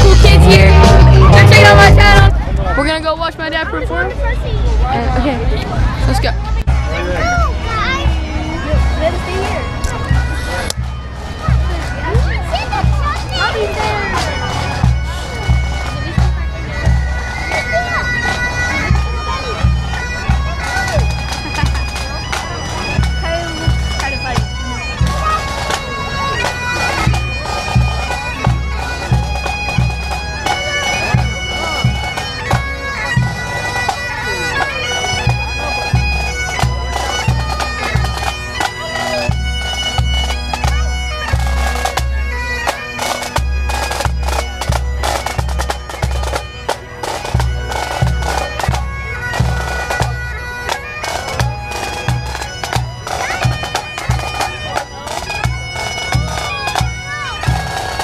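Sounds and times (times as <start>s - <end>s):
drums beating: 0.0s - 3.6s, 6.0s - 58.0s
bagpipes melody with drones: 0.0s - 5.0s, 5.9s - 58.0s.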